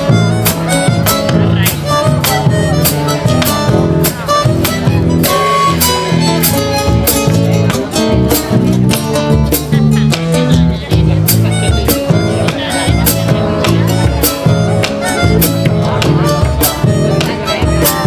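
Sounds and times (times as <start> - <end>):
instrumental music with clashing tones: 0.0 - 18.0.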